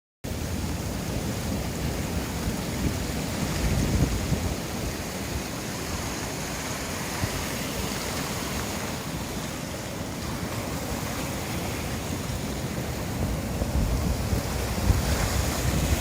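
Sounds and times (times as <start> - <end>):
sea waves breaking on beach: 0.3 - 16.0.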